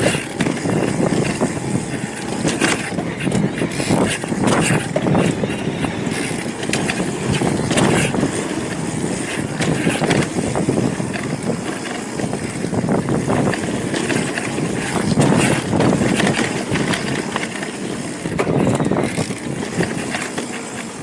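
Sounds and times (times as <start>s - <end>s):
bike knocking and rattling: 0.0s - 21.0s.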